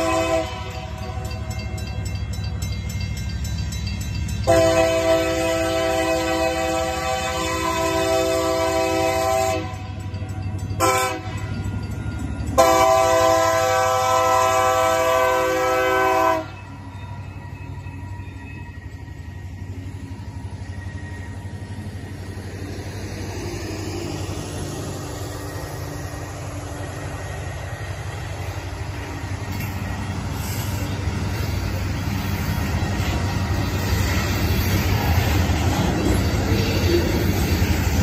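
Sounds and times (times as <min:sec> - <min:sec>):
diesel locomotive rumbling: 0:00.0 - 0:38.0
freight cars rolling on rails: 0:00.0 - 0:38.0.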